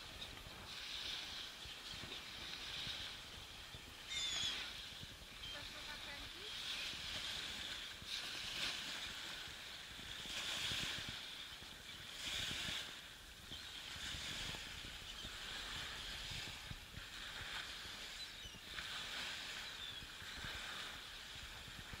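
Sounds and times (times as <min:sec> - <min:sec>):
small waves lapping on shore: 0:00.0 - 0:22.0.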